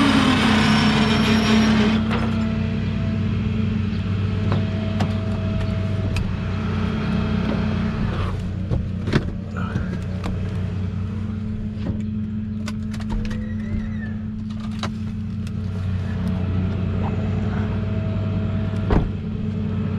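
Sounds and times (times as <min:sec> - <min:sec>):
vehicle engine running: 0:00.0 - 0:19.9.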